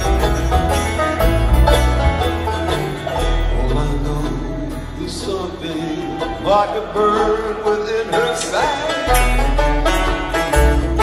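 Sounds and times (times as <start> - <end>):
acoustic guitars: 0.0 - 11.0
banjo: 0.0 - 11.0
upright bass: 0.0 - 11.0.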